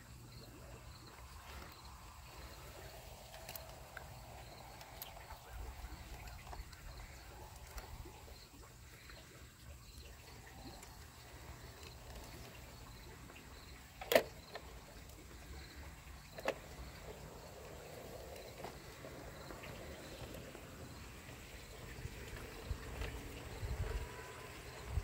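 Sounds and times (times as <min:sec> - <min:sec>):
model train faint low hum: 0:00.0 - 0:25.0.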